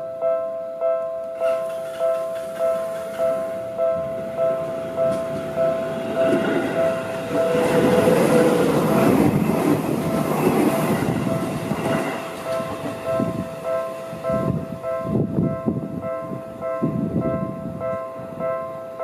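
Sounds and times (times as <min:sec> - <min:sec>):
level crossing alarm ringing: 0:00.0 - 0:19.0
train passing: 0:01.3 - 0:19.0.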